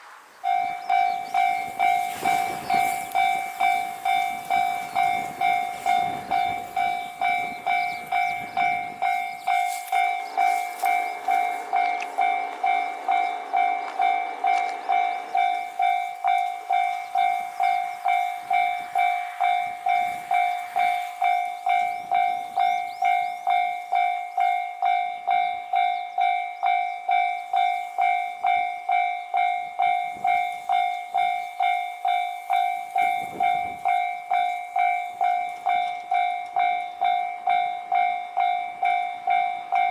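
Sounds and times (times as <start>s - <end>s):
diesel train passing: 0.0s - 39.9s
level crossing alarm bell: 0.4s - 39.9s.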